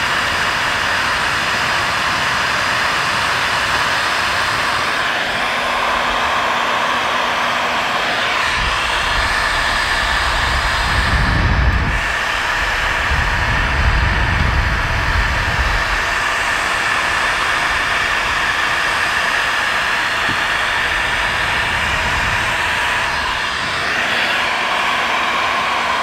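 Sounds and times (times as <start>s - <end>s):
heat gun blowing hot air: 0.0s - 26.0s.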